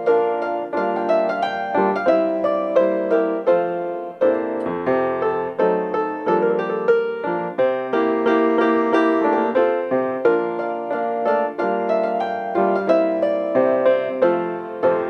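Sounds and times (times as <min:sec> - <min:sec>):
solo piano playing chords: 0:00.0 - 0:15.0.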